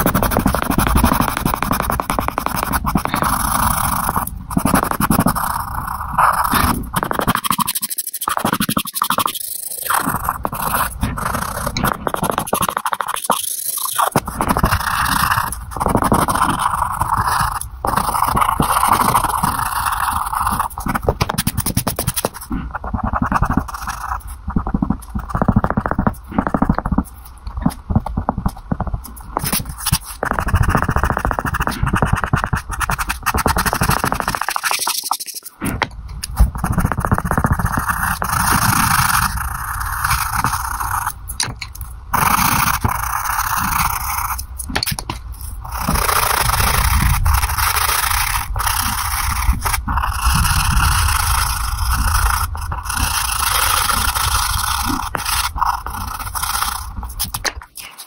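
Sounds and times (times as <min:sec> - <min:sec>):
coloured pencil scratching on paper: 0:00.0 - 0:27.2, 0:28.0 - 0:41.2, 0:42.1 - 0:44.6, 0:45.3 - 0:58.0.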